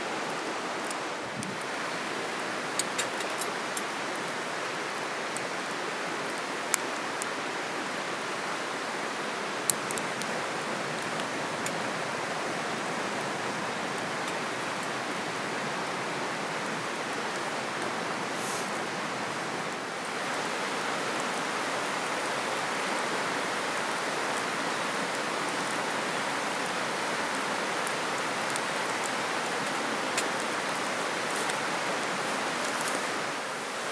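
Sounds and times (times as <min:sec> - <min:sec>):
river flowing: 0:00.0 - 0:33.9.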